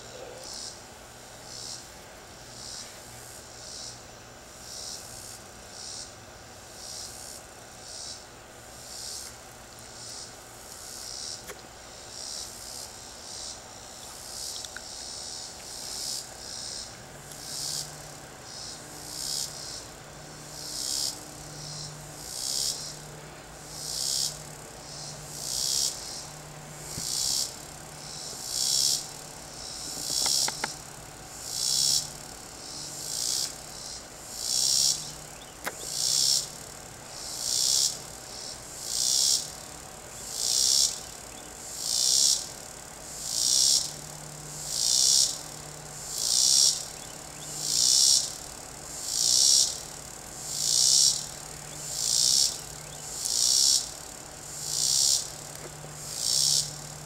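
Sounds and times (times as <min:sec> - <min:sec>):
cicada buzzing: 0:00.0 - 0:57.0.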